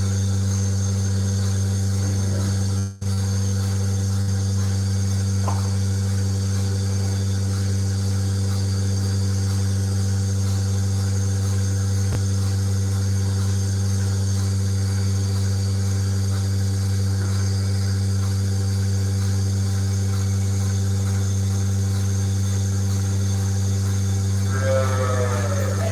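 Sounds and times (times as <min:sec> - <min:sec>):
vacuum pump motor humming: 0:00.0 - 0:25.9.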